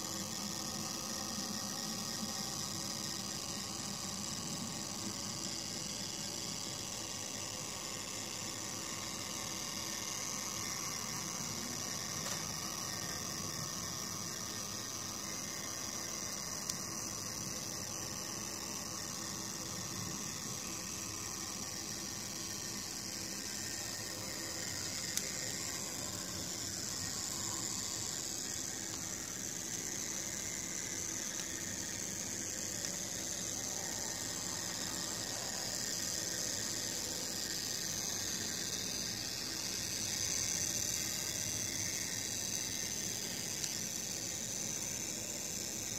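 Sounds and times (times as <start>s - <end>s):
model train motor whirring: 0.0s - 45.9s.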